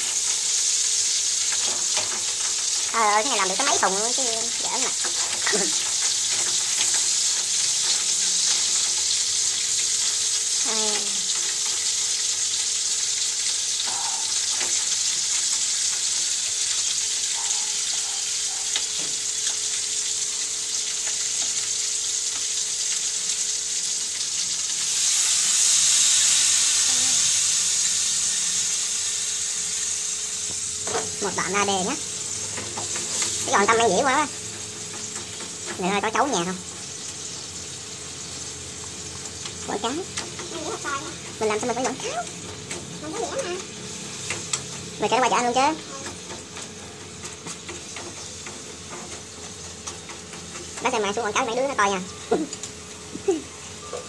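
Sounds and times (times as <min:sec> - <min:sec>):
crab sizzling in a wok: 0:00.0 - 0:54.0.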